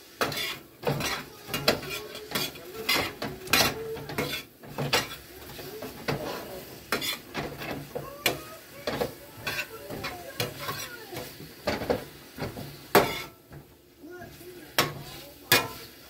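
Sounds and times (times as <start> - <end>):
utensils clinking against cookware: 0.1 - 13.7, 14.7 - 16.0.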